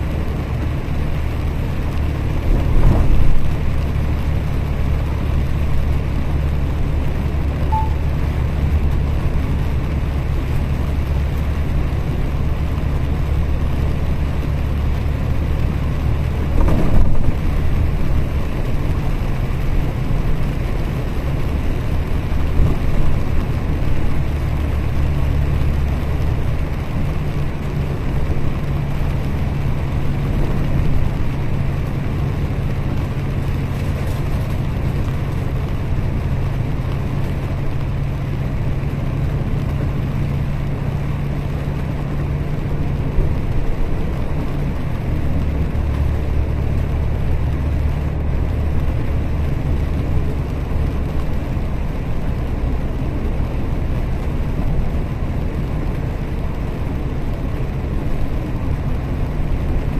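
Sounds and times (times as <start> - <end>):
bus engine drone: 0.0 - 59.9
tyre noise on wet road: 0.0 - 59.9.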